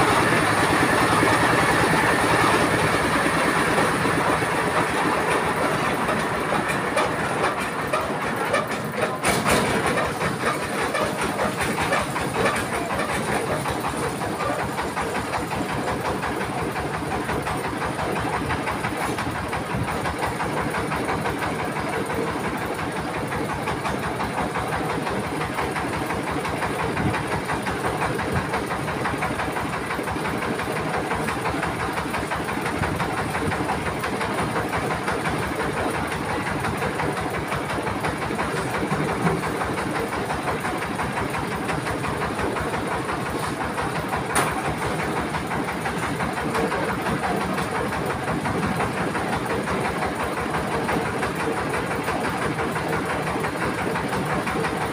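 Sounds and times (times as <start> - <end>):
machine clatter: 0.0 - 54.9
rice mill engine running: 0.0 - 54.9.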